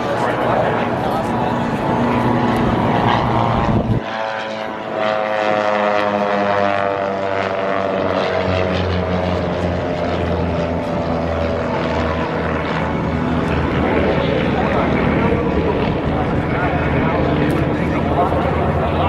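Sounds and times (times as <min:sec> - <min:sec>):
propeller aircraft flying past: 0:00.0 - 0:19.0.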